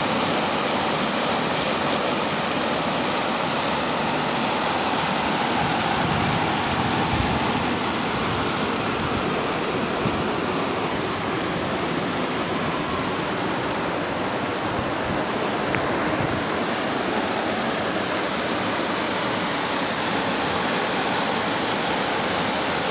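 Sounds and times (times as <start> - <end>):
heavy rain pouring: 0.0 - 22.9.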